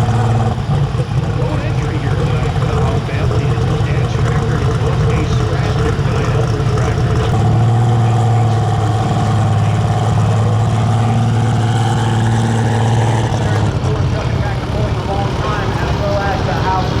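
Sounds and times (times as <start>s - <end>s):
diesel engine running hard: 0.0s - 17.0s.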